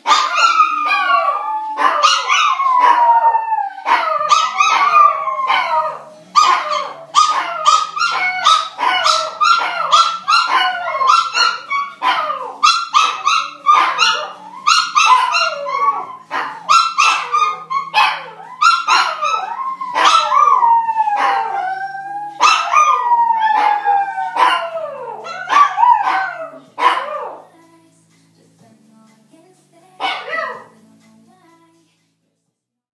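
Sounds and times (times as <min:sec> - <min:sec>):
dogs howling and yipping: 0:00.0 - 0:27.4, 0:30.0 - 0:30.7.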